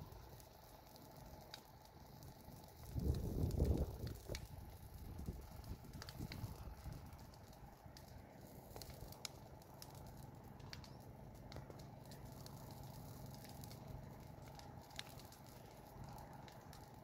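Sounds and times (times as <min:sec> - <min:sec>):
fire crackling and popping: 0:00.0 - 0:17.0
low steady rumble: 0:00.0 - 0:17.0.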